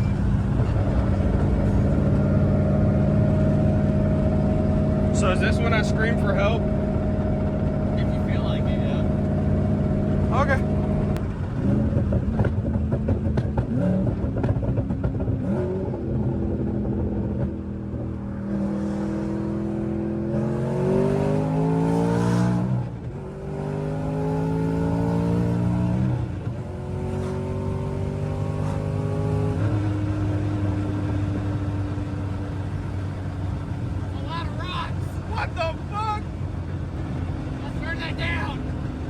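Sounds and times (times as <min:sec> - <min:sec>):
car engine accelerating hard: 0:00.0 - 0:39.0.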